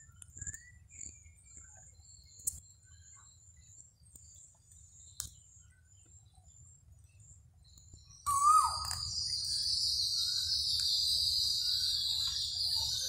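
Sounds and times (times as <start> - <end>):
soft bird chirps: 0.0 - 13.0.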